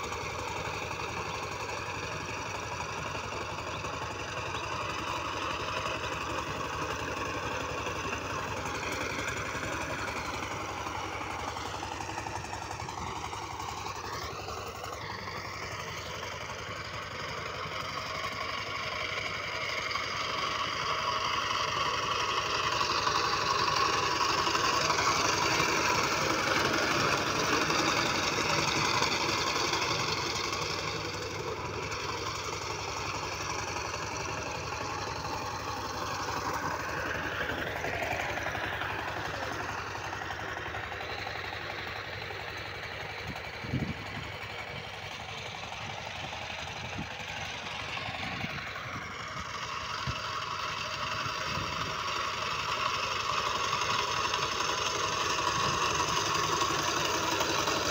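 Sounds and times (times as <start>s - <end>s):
power tiller diesel engine: 0.0s - 57.9s.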